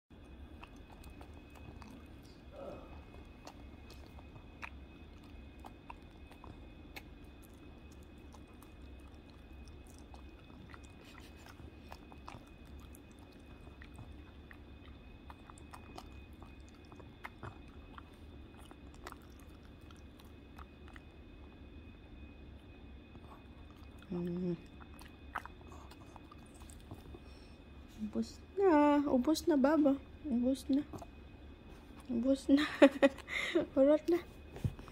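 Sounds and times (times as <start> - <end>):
steady low hum: 0.1 - 34.9
dog chewing: 0.2 - 27.9, 30.7 - 32.4.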